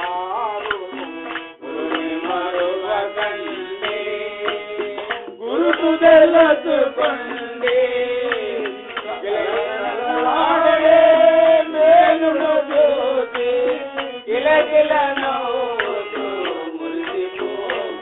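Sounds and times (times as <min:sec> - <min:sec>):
instrumental accompaniment: 0:00.0 - 0:18.0
person singing devotional song: 0:00.0 - 0:18.0.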